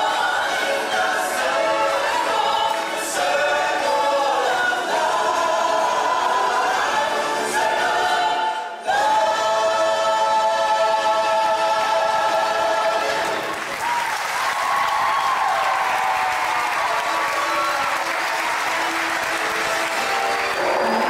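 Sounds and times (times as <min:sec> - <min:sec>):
choir singing held notes: 0:00.0 - 0:13.6, 0:17.0 - 0:21.0.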